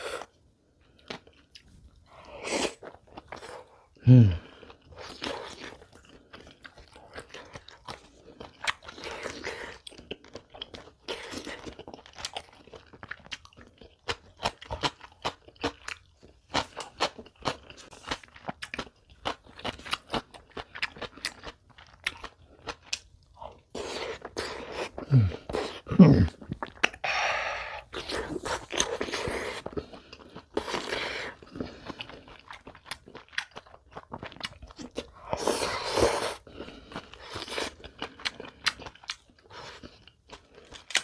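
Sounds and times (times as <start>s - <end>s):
crunching and chewing food: 0.0s - 41.0s.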